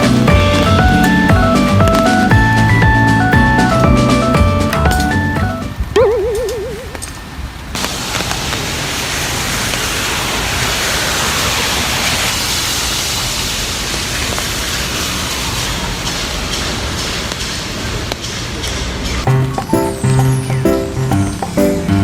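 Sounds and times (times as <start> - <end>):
heavy rain falling: 0.0 - 6.0, 6.9 - 22.0.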